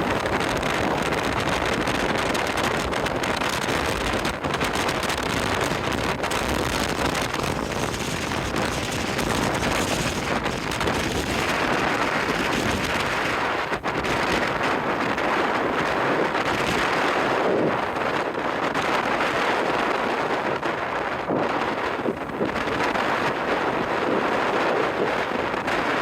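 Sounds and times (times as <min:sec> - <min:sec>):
ship and sea noise: 0:00.0 - 0:26.0
strong wind buffeting microphone: 0:00.0 - 0:26.0.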